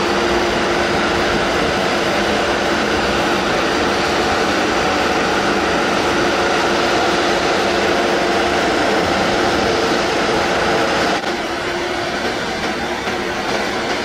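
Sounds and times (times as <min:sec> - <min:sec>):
road sweeper truck drone: 0:00.0 - 0:14.0.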